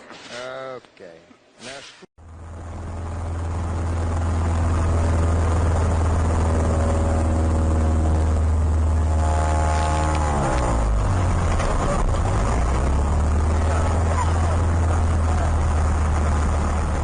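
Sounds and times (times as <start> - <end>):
centrifuge machinery droning: 2.2 - 17.0.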